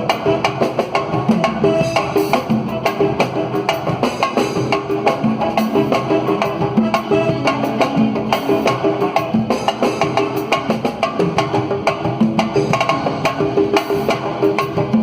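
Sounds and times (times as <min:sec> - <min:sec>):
samba drums and percussion: 0:00.0 - 0:15.0.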